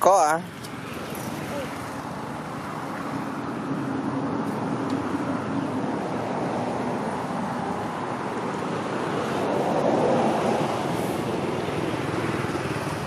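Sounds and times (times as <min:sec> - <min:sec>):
steady rushing noise: 0:00.2 - 0:13.0.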